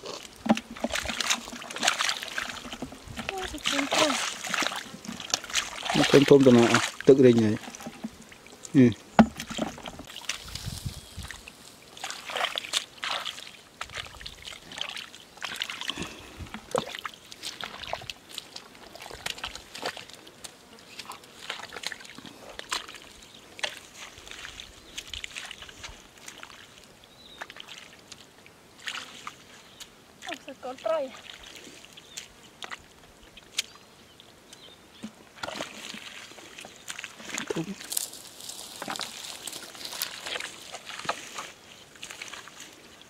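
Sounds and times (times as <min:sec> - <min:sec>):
shallow water splashing: 0:00.0 - 0:33.8, 0:35.0 - 0:43.0.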